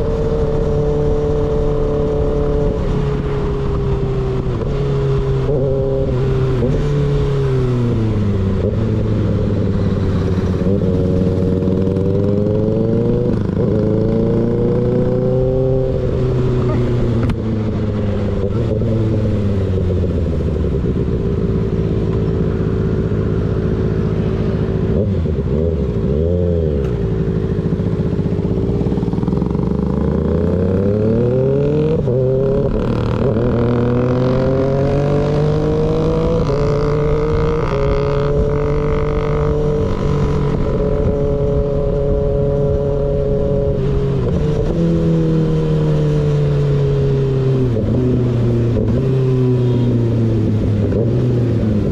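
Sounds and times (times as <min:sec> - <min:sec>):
motorcycle engine riding: 0:00.0 - 0:51.9.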